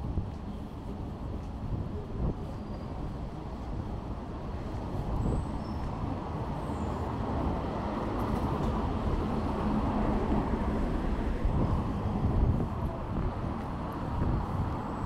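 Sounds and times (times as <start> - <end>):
vehicle rumbling nearby: 0.0 - 15.0.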